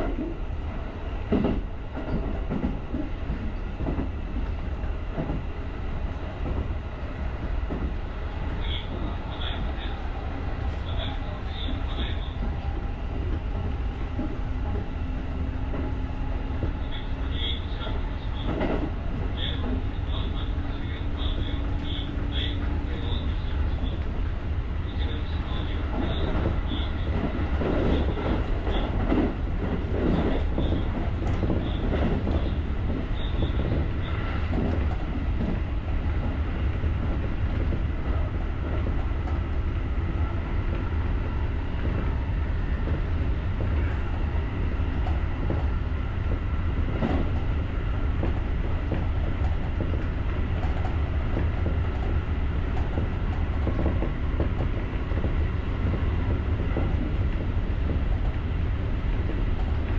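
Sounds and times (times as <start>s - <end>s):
train wheels clattering: 1.2s - 5.6s, 10.8s - 24.2s, 25.2s - 41.0s, 44.9s - 59.9s.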